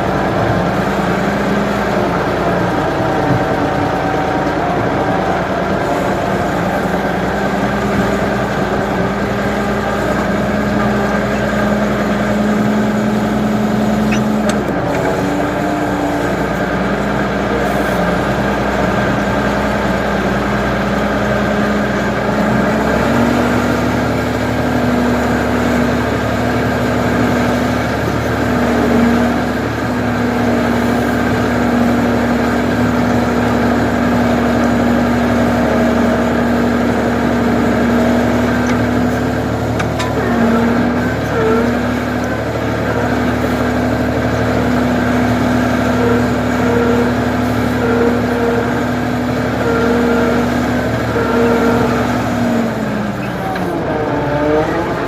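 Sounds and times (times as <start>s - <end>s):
backhoe engine running: 0.0s - 55.0s.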